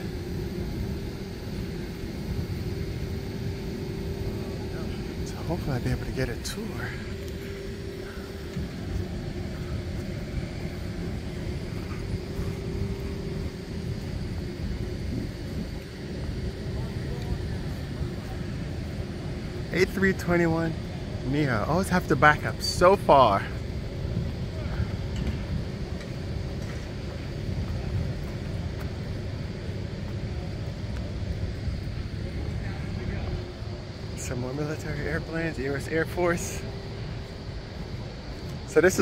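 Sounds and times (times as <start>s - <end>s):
droning hum: 0.0s - 39.0s
low outdoor rumble: 0.0s - 39.0s.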